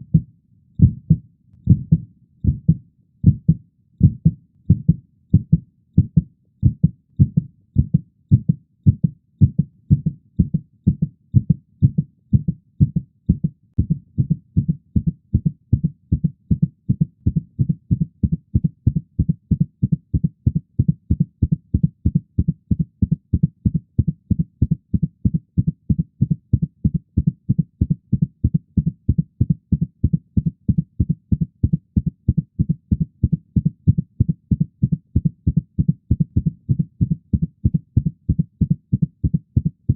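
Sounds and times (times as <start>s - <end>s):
heartbeat: 0.0s - 39.9s.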